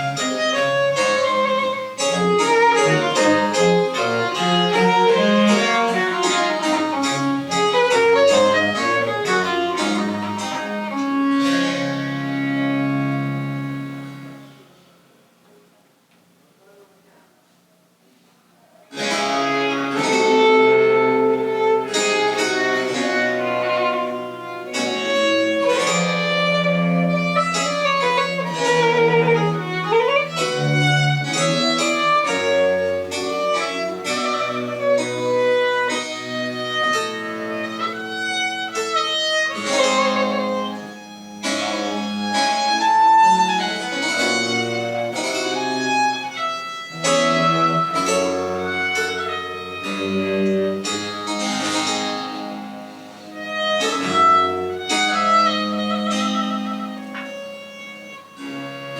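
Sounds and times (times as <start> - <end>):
baroque chamber ensemble playing: 0.0 - 14.9, 18.9 - 58.9.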